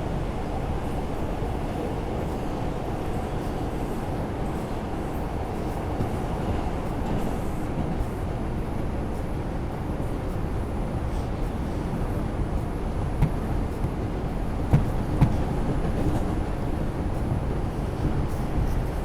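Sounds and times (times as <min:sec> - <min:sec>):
subway train wheels and motors: 0:00.0 - 0:19.0.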